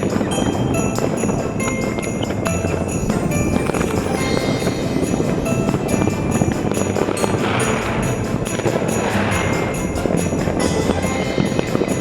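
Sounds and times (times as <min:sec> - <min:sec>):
music with jingling bells: 0:00.0 - 0:12.0.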